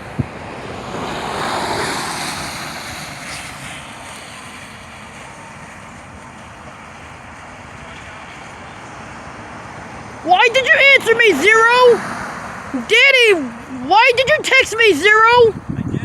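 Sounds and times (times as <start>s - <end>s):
steady outdoor hiss: 0.0s - 16.0s
vehicle passing on road: 0.0s - 16.0s.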